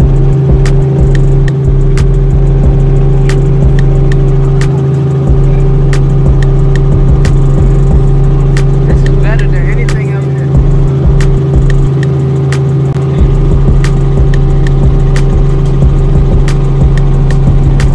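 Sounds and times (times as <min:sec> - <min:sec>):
aircraft engine drone: 0:00.0 - 0:17.9.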